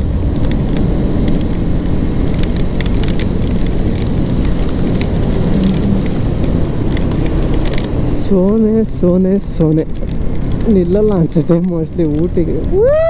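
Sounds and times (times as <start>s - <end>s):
raindrops ticking on microphone: 0.0s - 13.0s
tyres on wet road: 0.0s - 13.0s
wind rumble: 0.0s - 13.0s.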